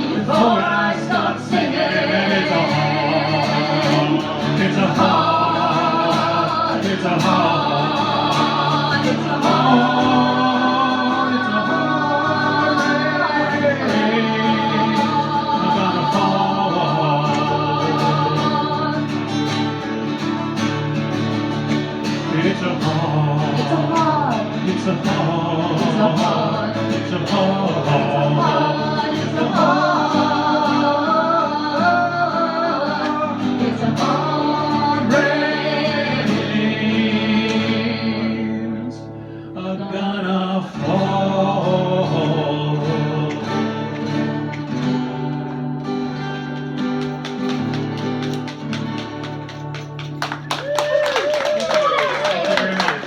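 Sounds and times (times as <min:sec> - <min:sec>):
voices singing: 0:00.0 - 0:20.8, 0:21.7 - 0:46.3
acoustic guitar: 0:00.0 - 0:53.0.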